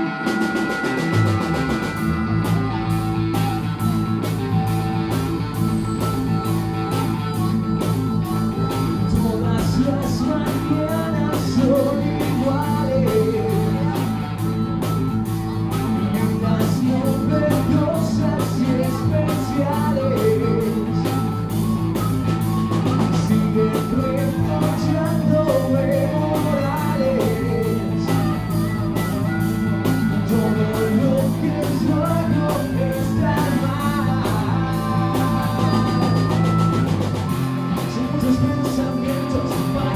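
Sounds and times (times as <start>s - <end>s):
bass guitar: 0.0s - 39.9s
drums: 0.0s - 39.9s
electric guitar: 0.0s - 39.9s
wavering lead melody: 0.0s - 39.9s.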